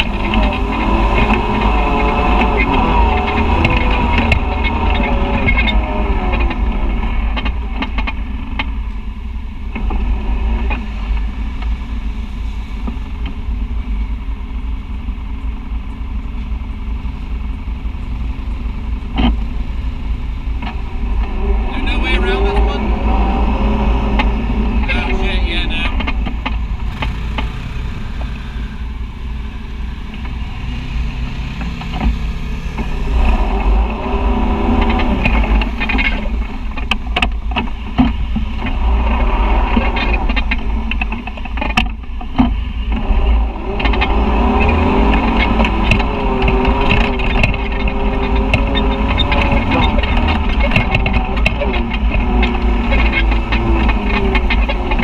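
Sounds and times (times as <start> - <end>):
off-road vehicle engine revving: 0.0 - 14.4, 15.6 - 55.0.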